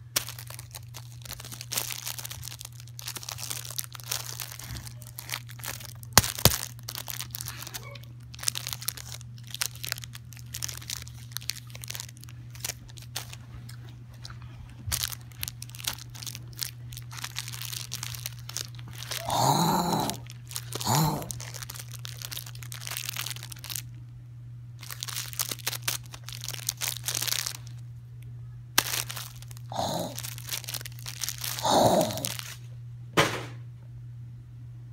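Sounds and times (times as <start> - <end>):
plastic wrapper crinkling: 0.0 - 24.0, 24.8 - 27.8, 28.8 - 32.7.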